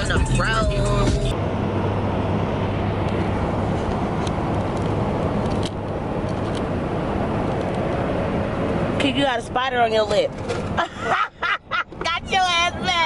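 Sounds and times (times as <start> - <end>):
road and engine noise in vehicle: 0.0 - 13.0.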